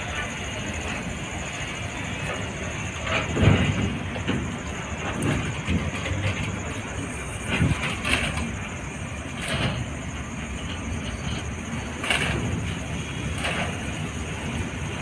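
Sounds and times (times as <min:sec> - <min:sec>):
goods train rumbling past: 0:00.0 - 0:15.0
wagons knocking and clanking: 0:00.0 - 0:15.0.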